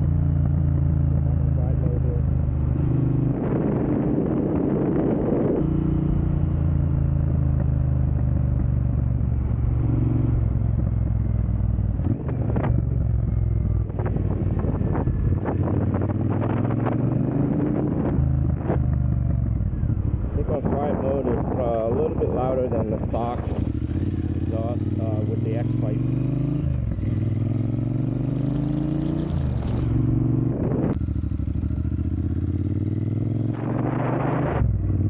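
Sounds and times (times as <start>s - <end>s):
motorcycle engine idling and revving: 0.0s - 35.0s.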